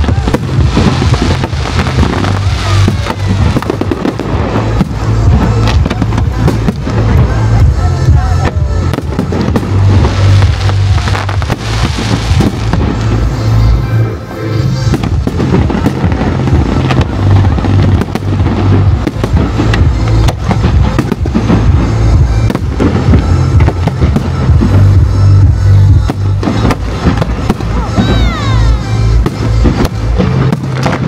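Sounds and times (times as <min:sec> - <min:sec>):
fireworks bangs and crackles: 0:00.0 - 0:31.0
loud music with pulsing bass: 0:00.0 - 0:31.0.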